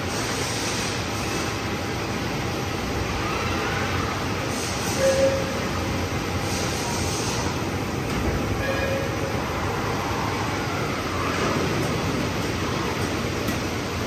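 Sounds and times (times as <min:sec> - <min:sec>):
machinery rumble and hiss: 0:00.0 - 0:14.0.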